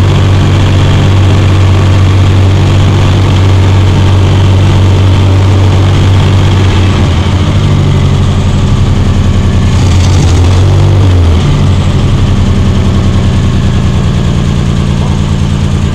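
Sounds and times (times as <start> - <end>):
car engine rumbling at idle: 0.0 - 15.9.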